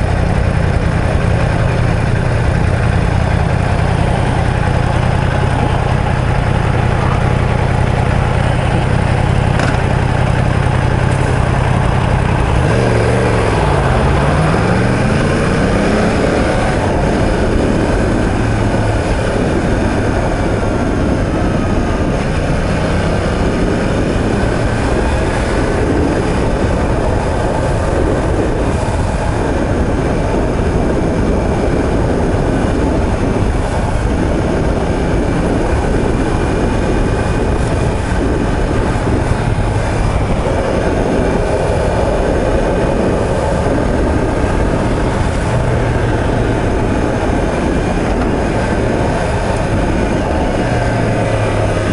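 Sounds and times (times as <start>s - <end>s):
motorcycle engine: 0.0s - 51.9s
wind rush: 0.0s - 51.9s.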